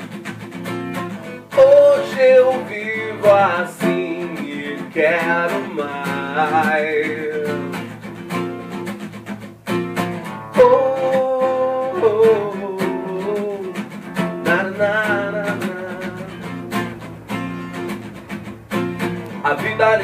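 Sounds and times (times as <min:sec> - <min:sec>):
guitar: 0:00.0 - 0:20.0.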